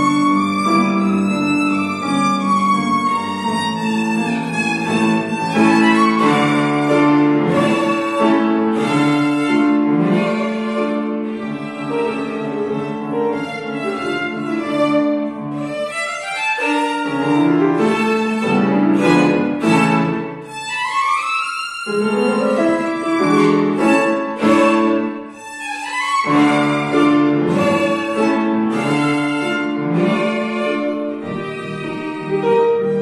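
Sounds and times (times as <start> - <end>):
grand piano chords: 0.0 - 20.9, 21.8 - 25.6, 26.2 - 33.0
violin melody: 0.0 - 33.0.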